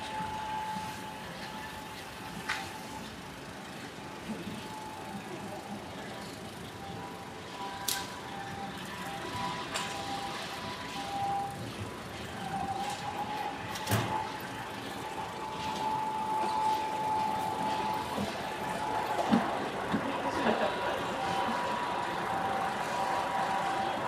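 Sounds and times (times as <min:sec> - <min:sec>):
generator whining tone: 0:00.0 - 0:24.0.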